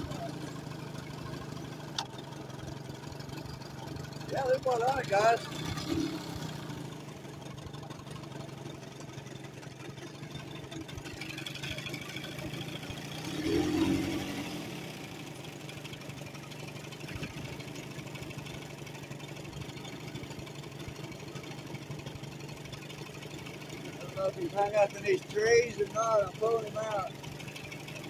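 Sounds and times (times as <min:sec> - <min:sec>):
outboard motor idling: 0:00.0 - 0:28.0.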